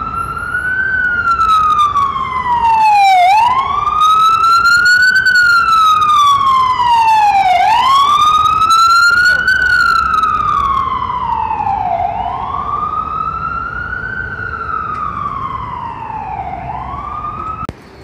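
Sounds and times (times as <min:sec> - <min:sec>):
ambulance siren wailing: 0:00.0 - 0:17.7.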